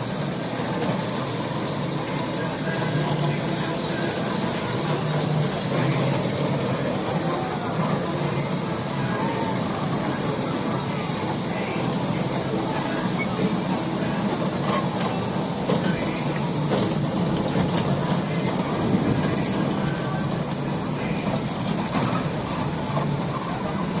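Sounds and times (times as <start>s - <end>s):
ride-on train rumbling: 0.0s - 24.0s.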